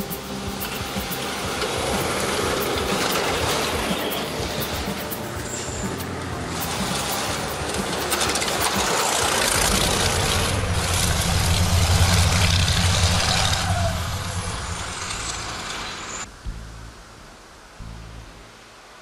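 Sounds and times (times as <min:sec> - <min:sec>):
heavy truck engine rumble: 0:00.0 - 0:18.5.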